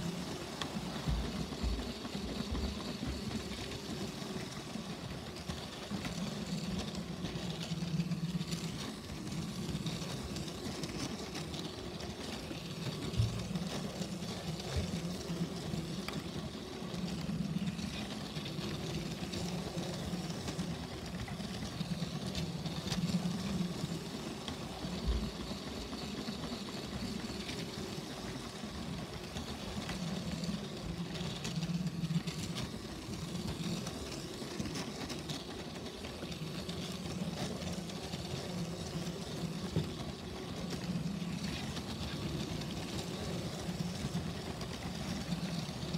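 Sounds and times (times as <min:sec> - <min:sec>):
toy train motor whirring: 0:00.0 - 0:45.9
wheels rolling on plastic track: 0:00.0 - 0:45.9.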